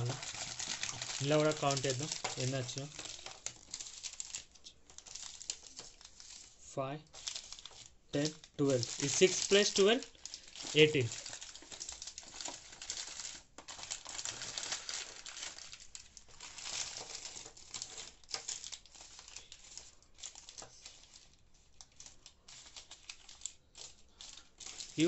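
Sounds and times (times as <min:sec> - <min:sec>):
foil wrappers crinkling: 0:00.0 - 0:25.0.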